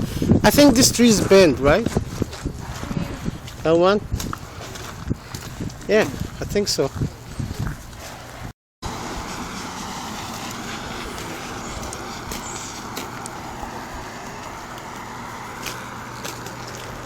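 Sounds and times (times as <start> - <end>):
distant road traffic or wind: 0.0 - 17.0.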